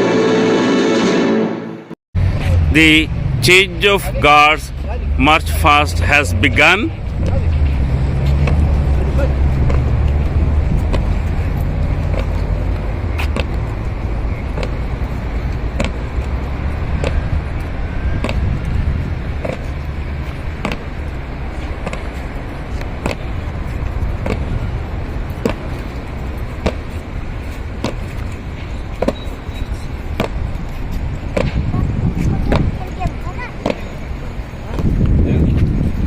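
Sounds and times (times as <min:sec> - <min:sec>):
boots marching on pavement: 0:07.0 - 0:36.0.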